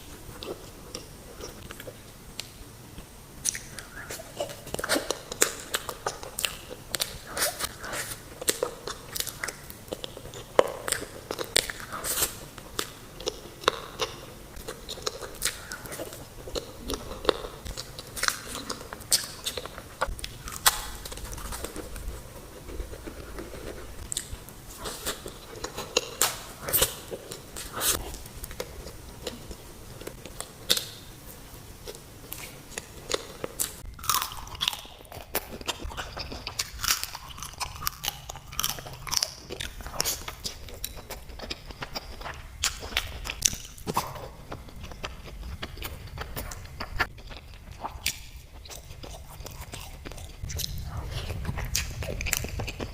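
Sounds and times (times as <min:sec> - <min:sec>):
crunchy chewing: 0:00.0 - 0:52.9.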